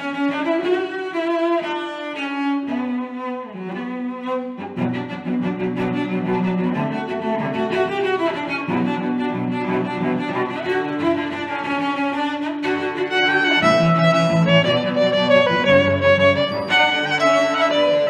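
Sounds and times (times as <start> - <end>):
bowed strings music: 0.0 - 18.0.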